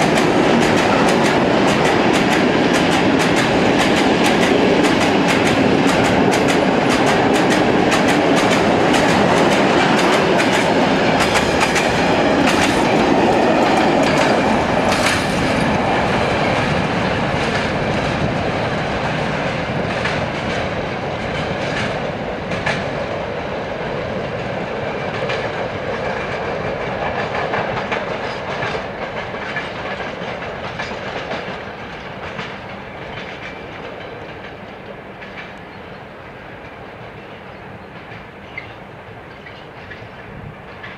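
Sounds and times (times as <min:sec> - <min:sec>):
train wheels clattering over rail joints: 0:00.0 - 0:23.1, 0:24.2 - 0:40.2.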